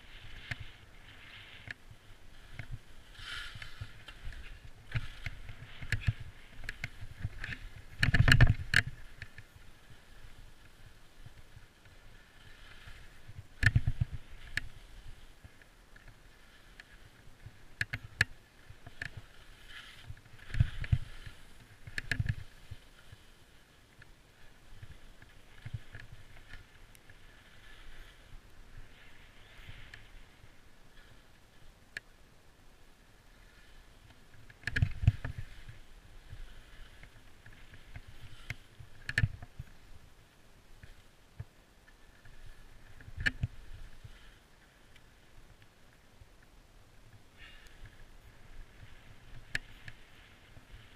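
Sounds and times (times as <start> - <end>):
skis scraping over snow: 0.0 - 31.7, 33.2 - 41.1, 41.9 - 45.6, 47.4 - 50.9
ski clicks and clatters: 0.0 - 32.2, 33.3 - 50.9.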